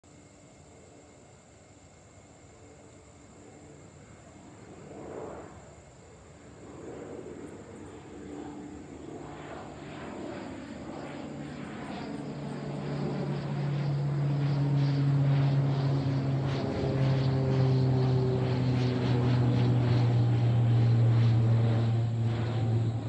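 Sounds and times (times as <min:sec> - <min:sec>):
propeller plane droning overhead: 0:00.0 - 0:23.0.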